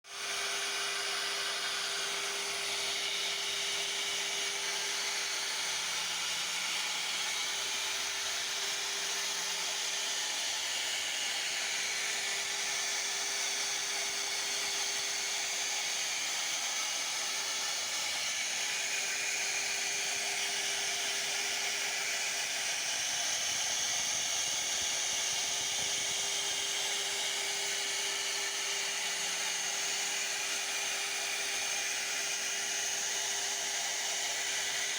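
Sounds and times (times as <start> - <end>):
router spindle whining: 0.1 - 34.9.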